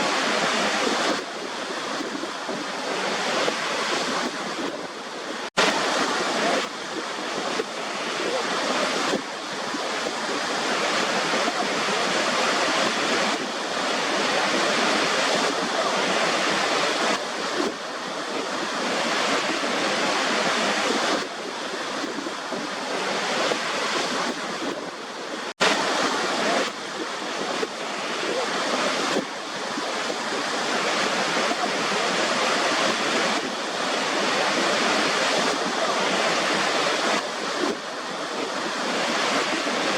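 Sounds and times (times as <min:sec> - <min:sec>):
rushing white noise: 0:00.0 - 0:39.9.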